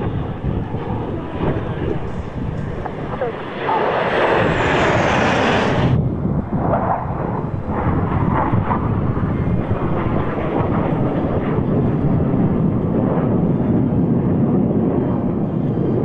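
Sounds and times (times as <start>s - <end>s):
airplane engine rumble: 0.0s - 16.0s.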